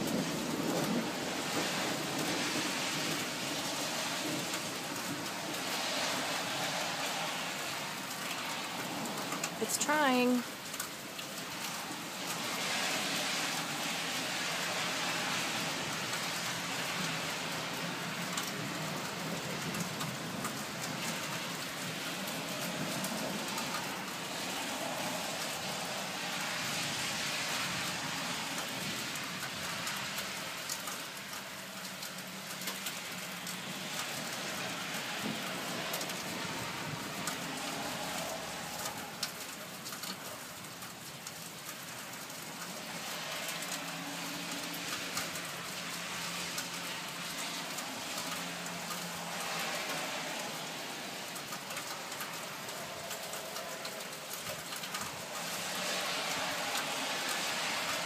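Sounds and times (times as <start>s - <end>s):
raindrops ticking: 0.0s - 58.0s
steady rain falling: 0.0s - 58.0s.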